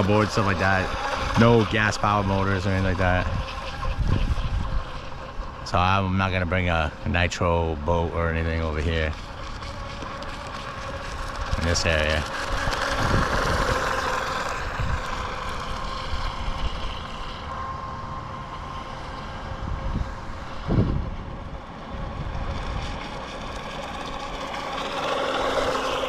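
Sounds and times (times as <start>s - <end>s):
rc boat motor whine: 0.0s - 26.0s.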